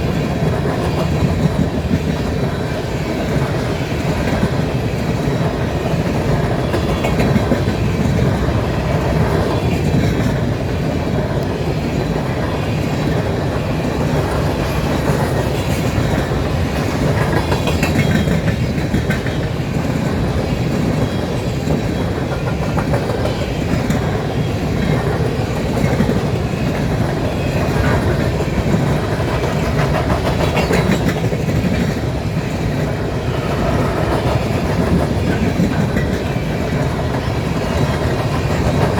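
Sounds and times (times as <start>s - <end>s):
clickety-clack of train wheels: 0.0s - 38.9s
train cars rumbling past: 0.0s - 38.9s.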